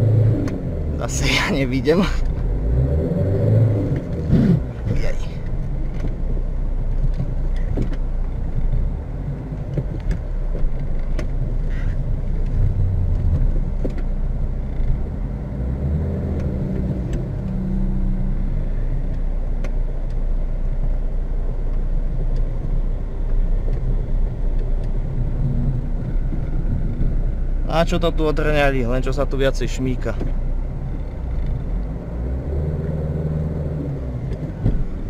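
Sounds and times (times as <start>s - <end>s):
diesel car engine from cabin: 0.0s - 35.0s.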